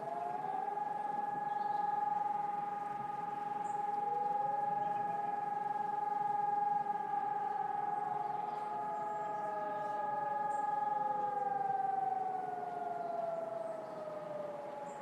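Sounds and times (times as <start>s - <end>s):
distant sirens: 0.0s - 15.0s.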